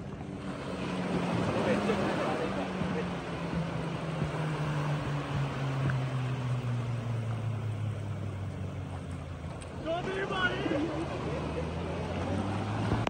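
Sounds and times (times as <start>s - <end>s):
motorboat engine droning: 0.0s - 13.0s
small waves washing: 0.0s - 13.0s
wind: 0.0s - 13.0s.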